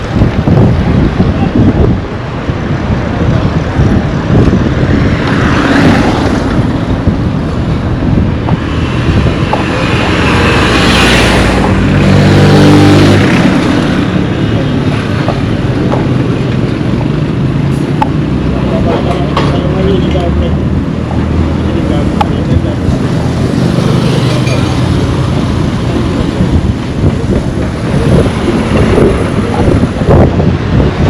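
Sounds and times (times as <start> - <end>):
roadside traffic passing: 0.0 - 31.0
vehicle passing by: 3.5 - 16.3, 17.4 - 31.0.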